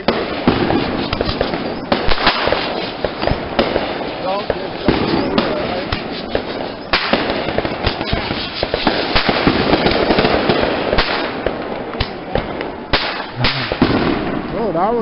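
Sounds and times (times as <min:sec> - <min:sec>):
fireworks crackle: 0:00.0 - 0:15.0
fireworks popping and banging: 0:00.0 - 0:15.0.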